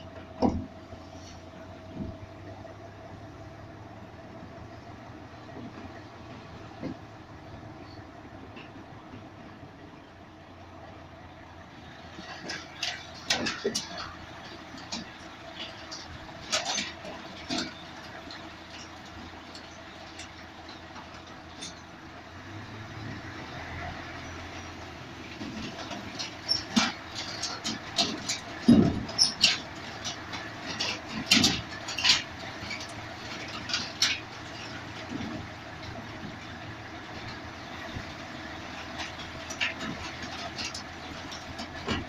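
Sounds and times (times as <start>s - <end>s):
vehicle engine low hum: 0.0s - 42.0s.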